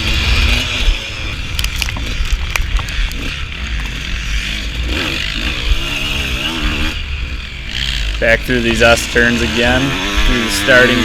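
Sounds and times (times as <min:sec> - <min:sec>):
dirt bike engine running: 0:00.0 - 0:03.4, 0:04.7 - 0:11.0
wind rumble on helmet camera: 0:00.0 - 0:11.0.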